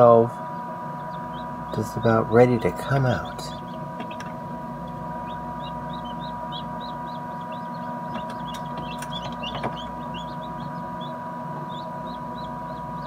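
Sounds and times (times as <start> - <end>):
chicks peeping: 0.0 - 13.0
incubator humming: 0.0 - 13.0.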